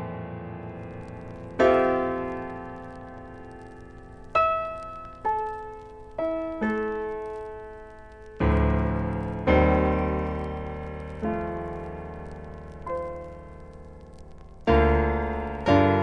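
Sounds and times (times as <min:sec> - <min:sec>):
slow calm solo piano: 0:00.0 - 0:16.0.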